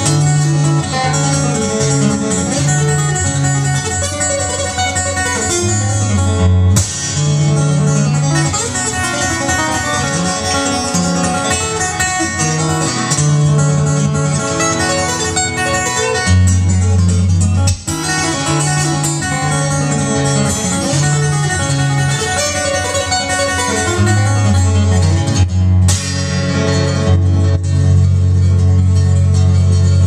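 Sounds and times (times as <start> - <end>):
fingerstyle acoustic guitar: 0.0 - 30.0.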